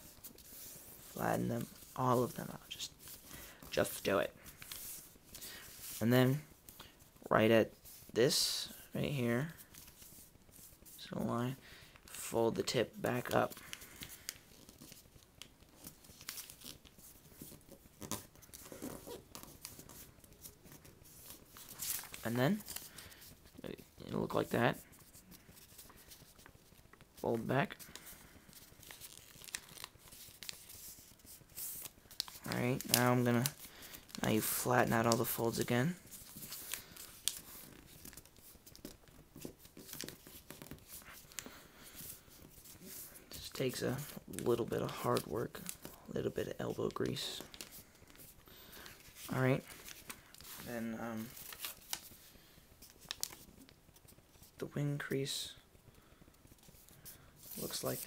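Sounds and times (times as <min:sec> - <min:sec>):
paper being folded and creased: 0:00.0 - 0:07.0, 0:09.5 - 0:11.2, 0:12.0 - 0:58.0.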